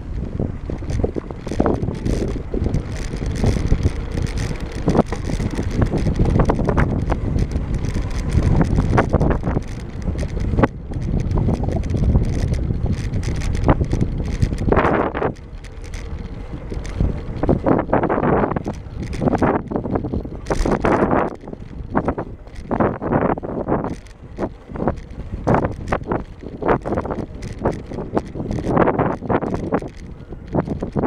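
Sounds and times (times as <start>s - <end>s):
bicycle rattling over brick paving: 0.0s - 31.0s
wind rushing over microphone: 0.0s - 31.0s.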